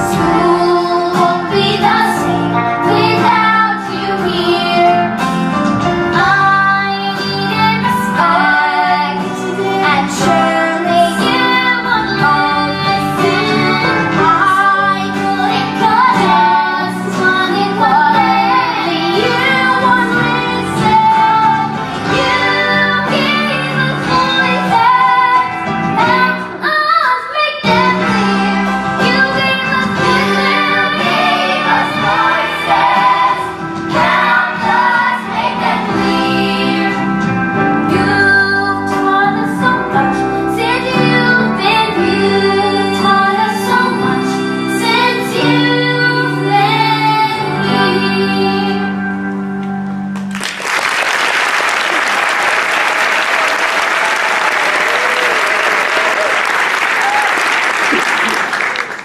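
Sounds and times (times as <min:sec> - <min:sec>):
girl singing: 0:00.0 - 0:05.2, 0:06.1 - 0:37.3, 0:37.9 - 0:49.1
rock band accompaniment: 0:00.0 - 0:51.3.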